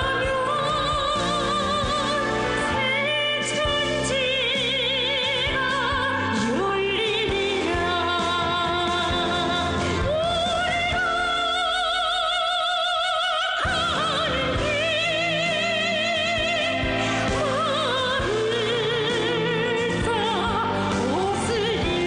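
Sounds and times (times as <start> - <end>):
song with backing track: 0.0 - 22.0.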